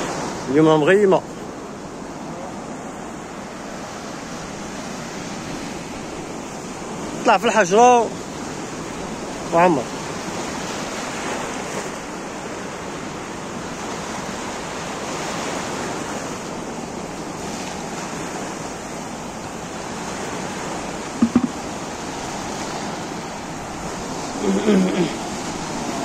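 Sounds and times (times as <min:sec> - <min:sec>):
sea waves breaking over rocks: 0:00.0 - 0:26.0.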